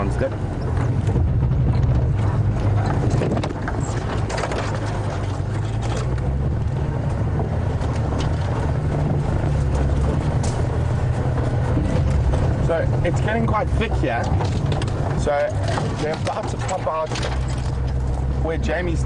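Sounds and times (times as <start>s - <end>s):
vehicle engine running: 0.0s - 19.0s
light knocks and crackles: 0.7s - 18.3s.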